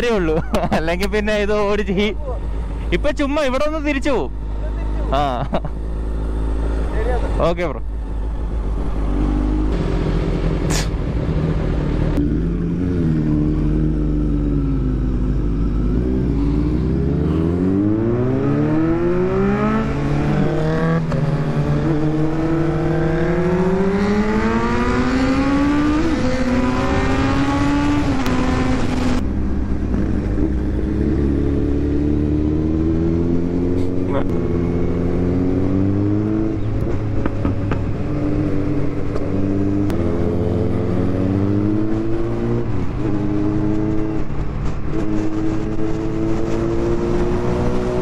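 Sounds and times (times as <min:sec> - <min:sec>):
motorcycle engine accelerating: 0:00.0 - 0:48.0.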